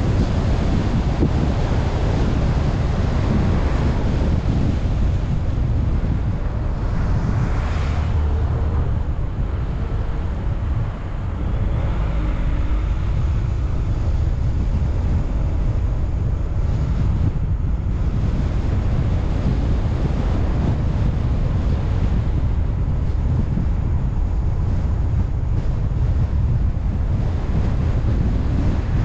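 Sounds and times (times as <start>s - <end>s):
car road noise rumble: 0.0s - 29.0s
wind buffeting microphone: 0.0s - 29.0s.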